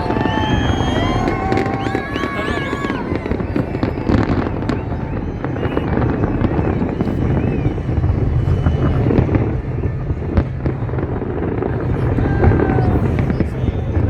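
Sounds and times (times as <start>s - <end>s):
fireworks crackling and popping: 0.0s - 14.0s
fireworks whistling: 0.0s - 14.0s
low rumble: 0.0s - 14.0s.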